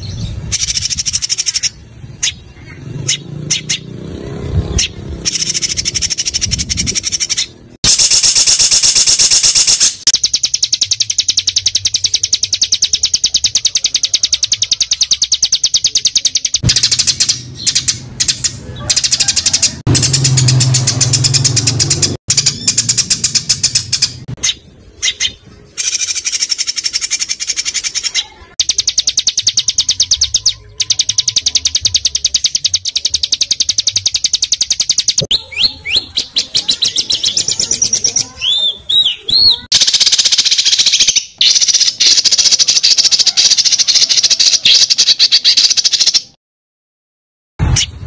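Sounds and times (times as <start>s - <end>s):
songbirds singing rapid trills: 0.0s - 46.3s.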